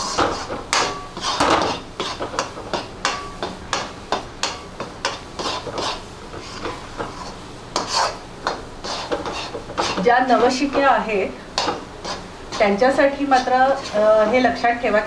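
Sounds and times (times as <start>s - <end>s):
metal spatula scraping a pan: 0.0s - 11.0s, 11.6s - 15.0s.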